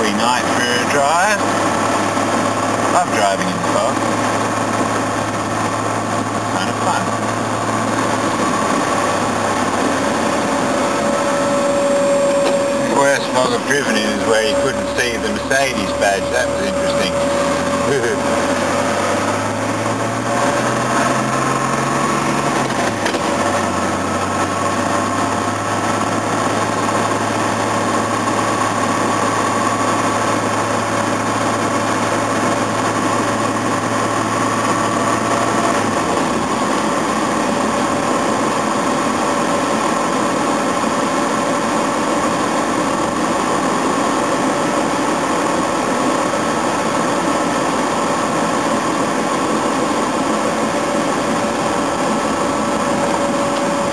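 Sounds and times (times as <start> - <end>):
car engine and road noise: 0.0 - 53.9
low hum: 0.0 - 53.9.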